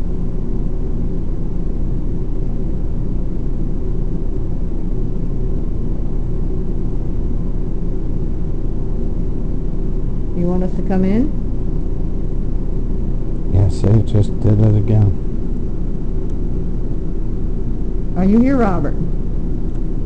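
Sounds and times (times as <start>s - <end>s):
low rumbling hum: 0.0s - 20.0s.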